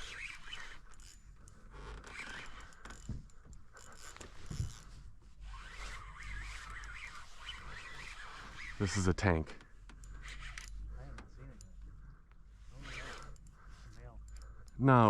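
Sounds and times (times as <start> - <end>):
rustling and scraping: 0.0 - 14.7.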